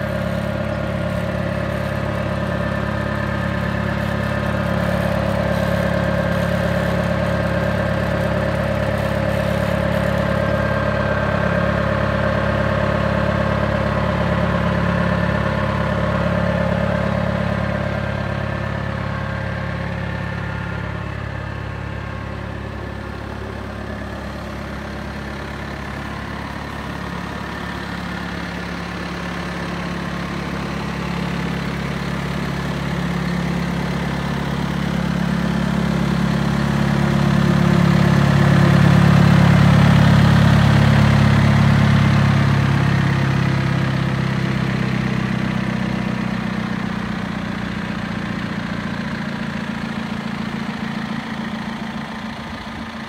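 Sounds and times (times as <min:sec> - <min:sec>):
tractor diesel engine idling: 0:00.0 - 0:53.0.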